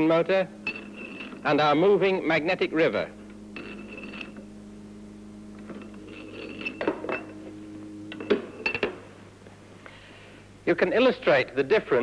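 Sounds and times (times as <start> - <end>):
electromagnets humming: 0.0 - 12.0.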